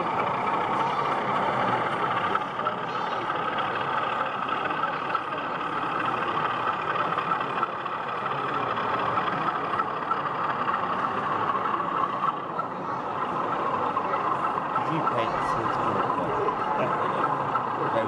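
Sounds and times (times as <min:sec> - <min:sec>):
model locomotive droning: 0:00.0 - 0:18.0.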